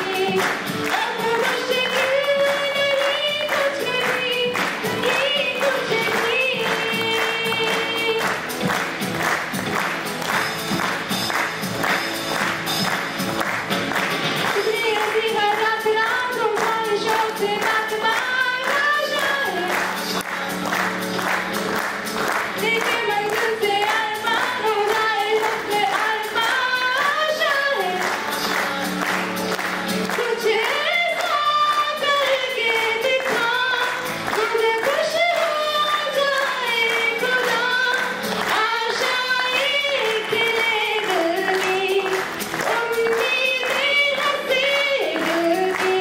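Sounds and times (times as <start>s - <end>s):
person singing a melody: 0.0s - 8.5s, 14.4s - 21.0s, 22.3s - 46.0s
musical accompaniment: 0.0s - 46.0s.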